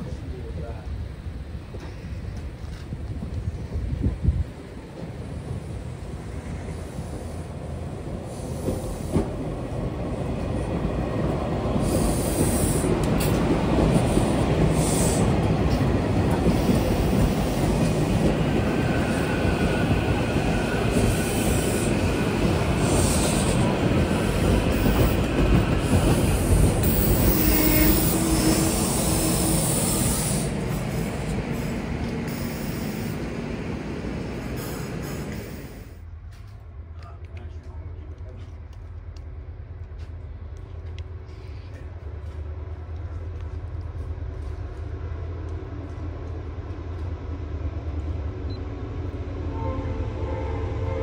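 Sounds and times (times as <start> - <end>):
train wheels rumbling over rails: 0.0 - 51.0.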